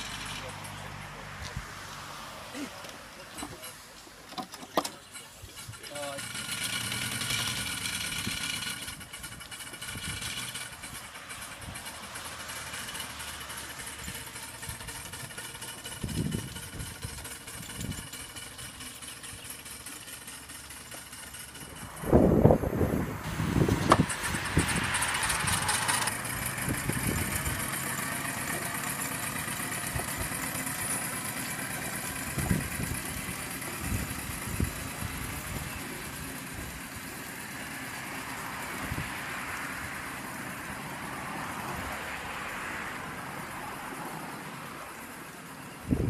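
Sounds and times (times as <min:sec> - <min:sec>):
miniature steam engine running: 0:00.0 - 0:01.3, 0:03.3 - 0:46.0.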